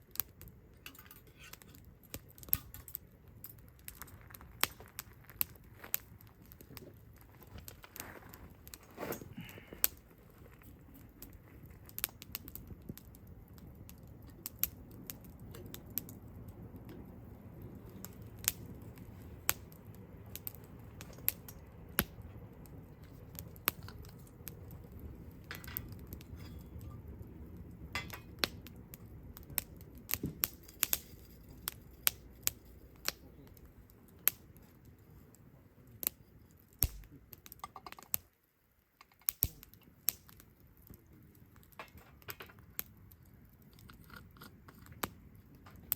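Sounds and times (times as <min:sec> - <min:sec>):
fire hissing: 0:00.0 - 0:38.4, 0:39.3 - 0:45.9
campfire crackling: 0:00.0 - 0:45.9
low rush of burning: 0:00.0 - 0:45.9.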